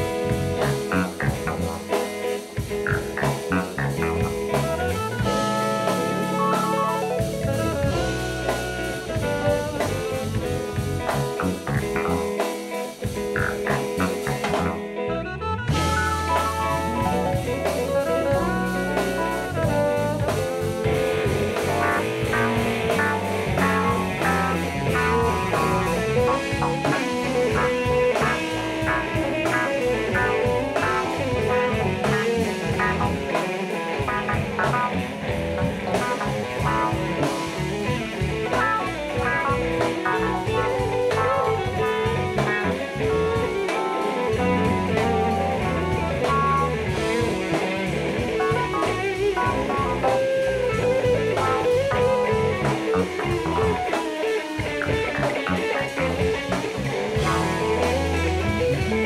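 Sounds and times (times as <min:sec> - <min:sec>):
drum kit: 0:00.0 - 0:59.0
electric guitar: 0:00.0 - 0:59.0
jazz-funk band playing: 0:00.0 - 0:59.0.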